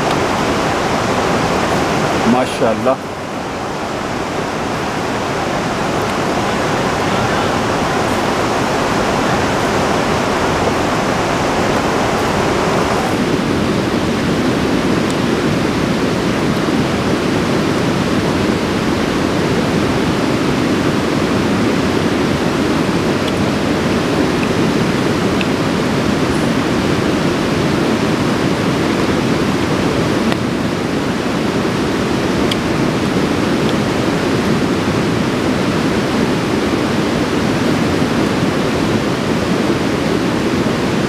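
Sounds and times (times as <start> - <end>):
mountain stream rushing: 0.0 - 41.0.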